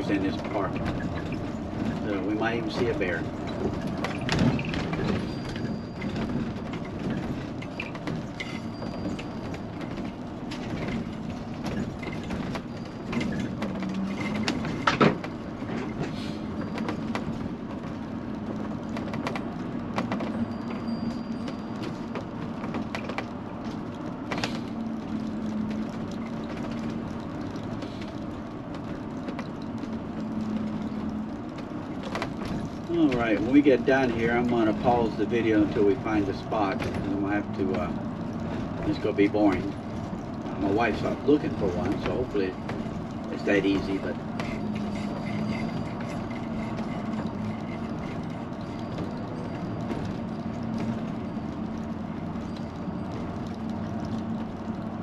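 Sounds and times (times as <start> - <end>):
rattles and creaks: 0.0 - 55.0.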